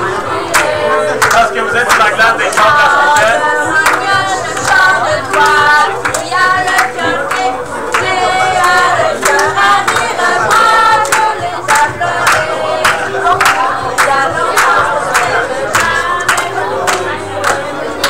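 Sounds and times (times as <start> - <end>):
group singing a chant: 0.0 - 18.0
hand claps: 0.5 - 18.0.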